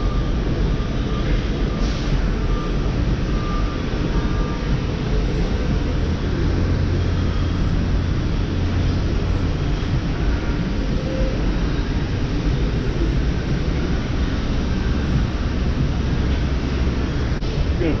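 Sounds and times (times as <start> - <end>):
machinery rumble and hum: 0.0 - 18.0.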